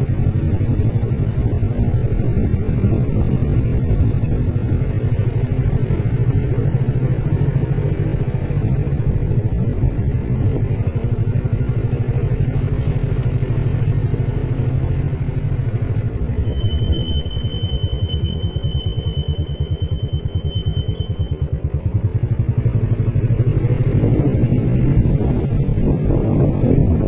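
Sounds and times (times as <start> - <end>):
motorcycle engine droning: 0.0 - 27.0.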